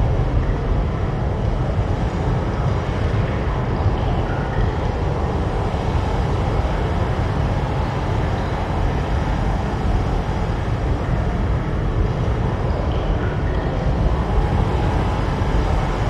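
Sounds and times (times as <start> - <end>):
deep storm and waves noise: 0.0 - 16.0.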